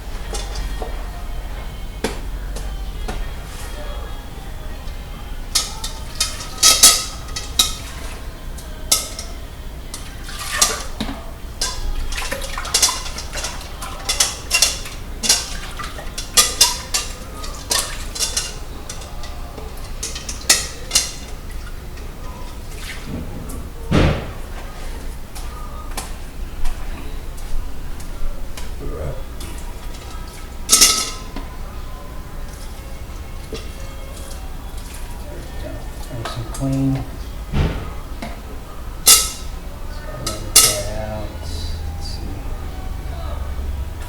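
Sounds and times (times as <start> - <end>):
dishes and cutlery clinking: 0.0 - 42.8.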